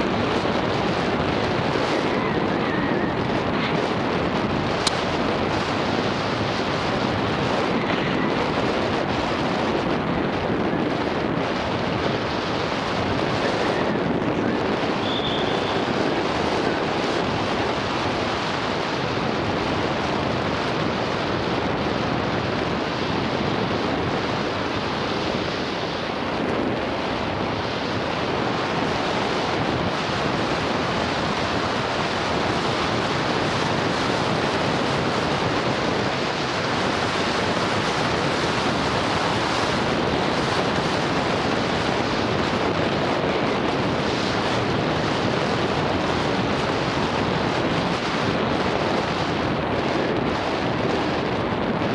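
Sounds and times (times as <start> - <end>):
bike rolling noise: 0.0 - 51.9
wind rushing over microphone: 0.0 - 51.9.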